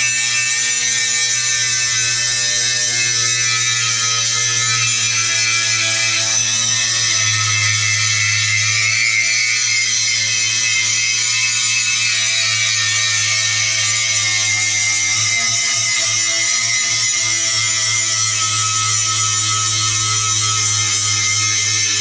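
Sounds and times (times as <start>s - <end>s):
angle grinder grinding steel: 0.0s - 22.0s.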